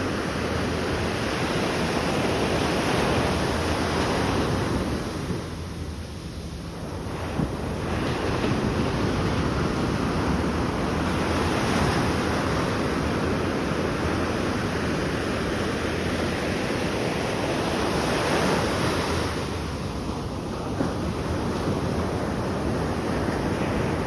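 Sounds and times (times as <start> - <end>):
ocean waves and surf: 0.0 - 24.0
wind on microphone: 0.0 - 24.0.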